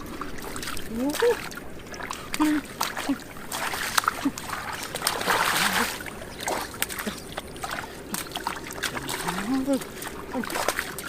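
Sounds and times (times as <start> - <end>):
floodwater splashing: 0.0 - 11.0
water dripping: 0.0 - 11.0.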